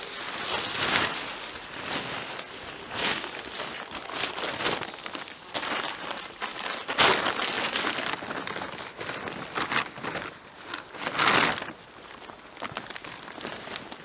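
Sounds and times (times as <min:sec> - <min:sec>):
tent fabric rustling: 0:00.0 - 0:14.0.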